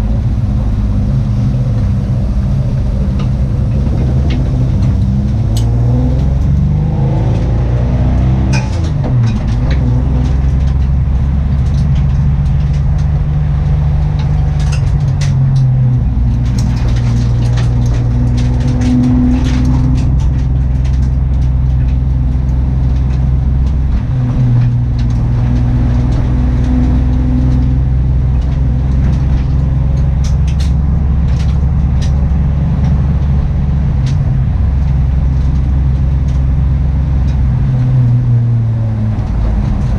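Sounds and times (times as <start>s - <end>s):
car engine running unevenly: 0.0s - 39.9s.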